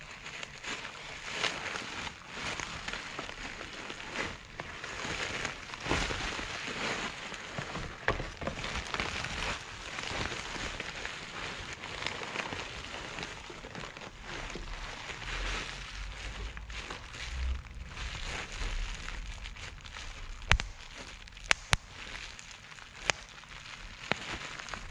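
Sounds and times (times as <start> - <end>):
bubble wrap crinkling: 0.0 - 24.9.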